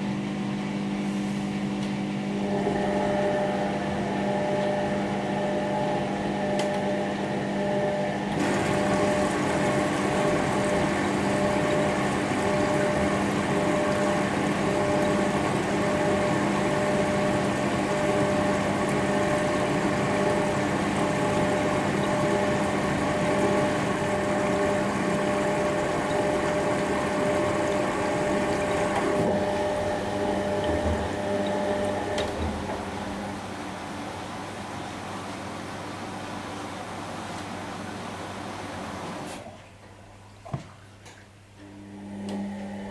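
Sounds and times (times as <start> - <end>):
washing machine drain pump: 0.0 - 42.9.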